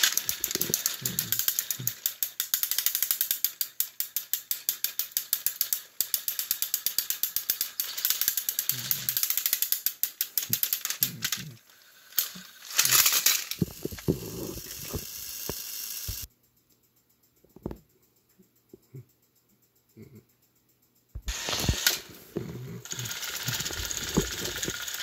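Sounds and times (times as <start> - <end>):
toy engine gears clicking: 0.0 - 16.3, 21.2 - 25.0.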